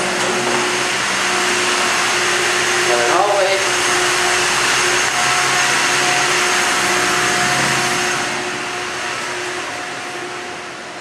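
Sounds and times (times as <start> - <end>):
ship machinery humming: 0.0 - 11.0
steady machine tones: 0.0 - 11.0.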